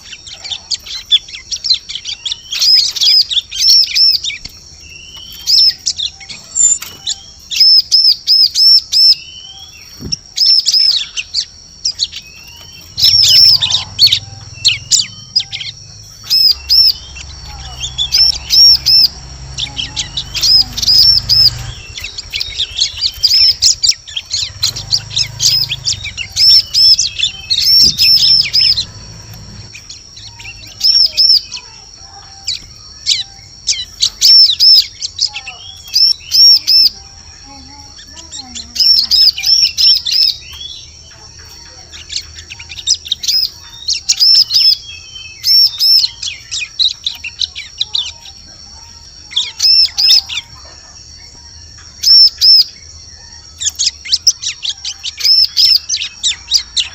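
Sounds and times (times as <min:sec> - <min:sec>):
bird chirping rapidly: 0:00.0 - 0:56.9.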